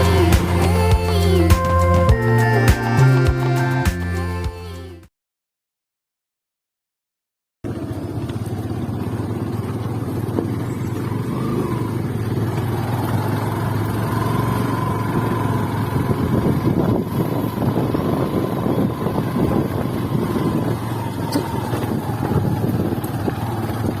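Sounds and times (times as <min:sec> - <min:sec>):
motorcycle engine running: 0:00.0 - 0:03.8, 0:07.6 - 0:24.0.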